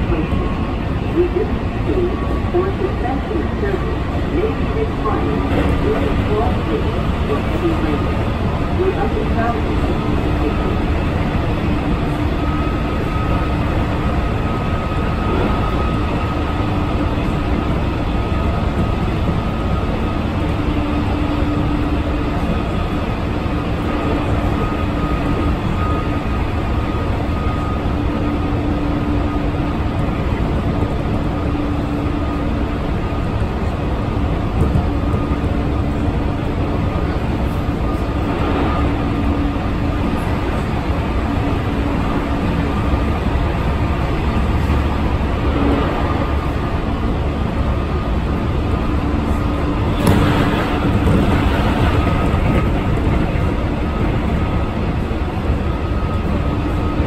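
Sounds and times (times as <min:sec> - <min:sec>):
constant hum: 0:00.0 - 0:57.0
train rolling rumble: 0:00.0 - 0:57.0.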